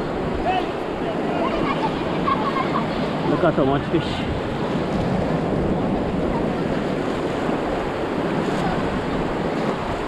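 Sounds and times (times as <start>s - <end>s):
surf washing onto beach: 0.0s - 10.0s.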